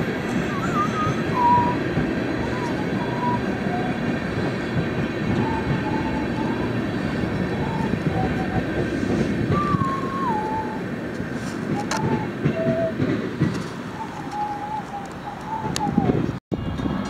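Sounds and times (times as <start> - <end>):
wavering wheel squeals: 0.0 - 16.4
train wheels rumbling on rails: 0.0 - 17.0.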